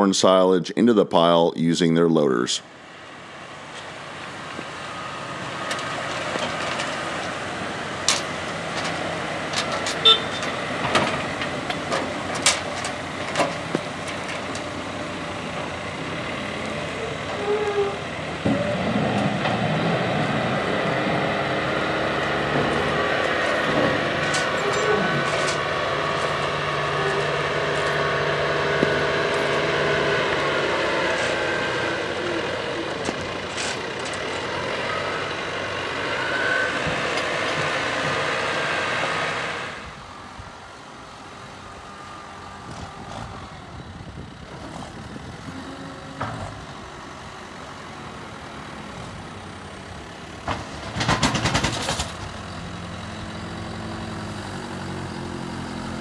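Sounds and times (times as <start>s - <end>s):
tractor diesel engines running: 0.0s - 56.0s.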